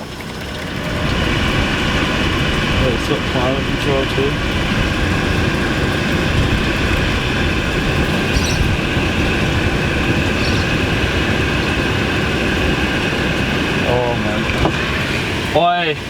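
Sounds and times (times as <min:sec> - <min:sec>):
air-conditioning fan blowing: 0:00.0 - 0:16.0
car engine idling: 0:00.0 - 0:16.0.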